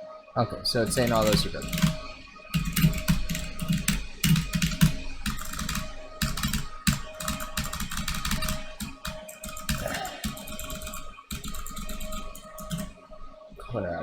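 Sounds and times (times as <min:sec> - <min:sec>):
computer keyboard typing: 0:00.7 - 0:13.2.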